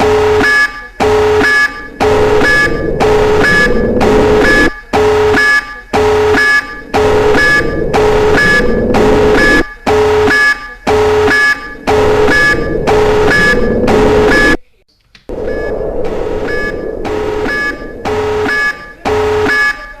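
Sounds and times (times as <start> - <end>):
pulsing alarm tone: 0.0 - 14.6, 15.3 - 20.0.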